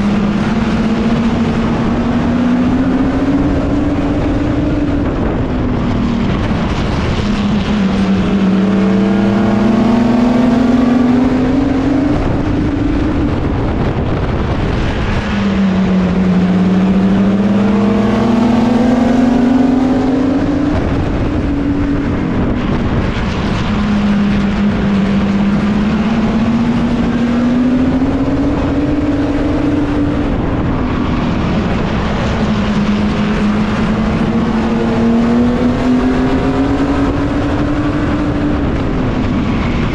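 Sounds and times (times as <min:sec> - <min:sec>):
racing truck engine accelerating: 0:00.0 - 0:39.9.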